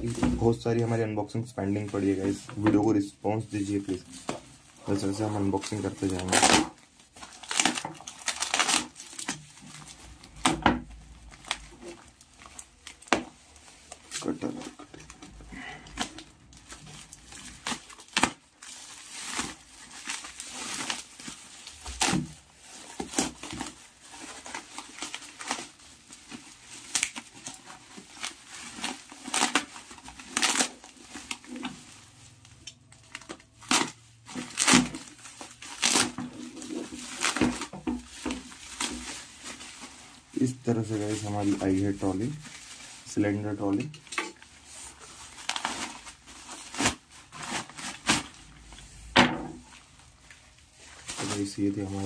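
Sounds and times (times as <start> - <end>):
bubble wrap crinkling and ripping: 0.0 - 52.0.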